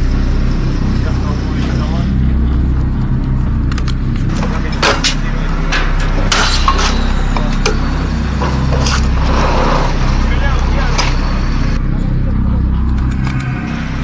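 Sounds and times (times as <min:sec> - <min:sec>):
hydraulic pump droning: 0:00.0 - 0:14.0.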